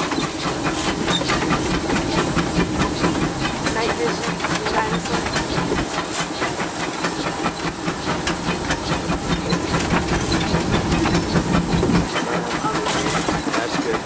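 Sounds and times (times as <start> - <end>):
locomotive clicking and rattling on rails: 0.0 - 14.0
steam hissing: 0.0 - 14.0.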